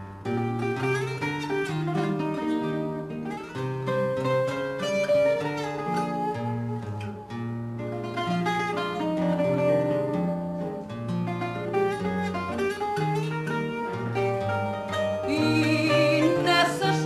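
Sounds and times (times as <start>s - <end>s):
classical guitar bass and chords: 0.0s - 17.0s
plucked guitar melody: 0.0s - 17.0s.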